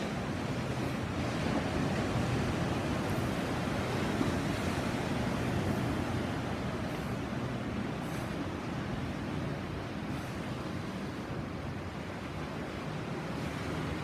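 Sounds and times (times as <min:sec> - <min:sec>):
sea surf washing on shore: 0:00.0 - 0:14.0.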